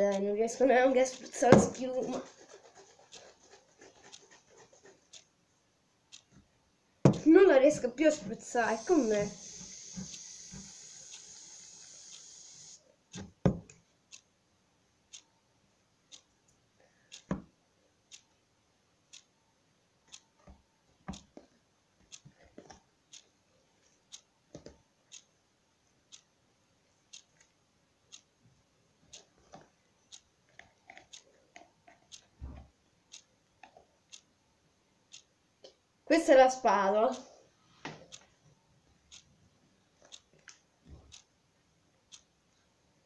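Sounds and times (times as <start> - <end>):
faint clock ticking: 0.0 - 43.0.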